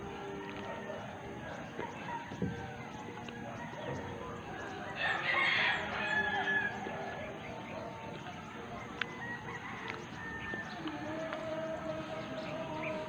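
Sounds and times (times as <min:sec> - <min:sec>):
bird calling: 0:00.0 - 0:13.0
low background noise: 0:00.0 - 0:13.0.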